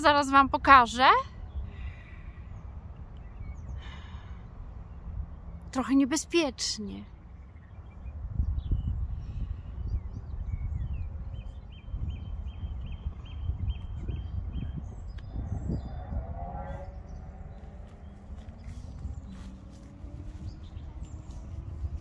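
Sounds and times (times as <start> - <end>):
wind buffeting microphone: 0.0 - 5.6, 7.1 - 22.0.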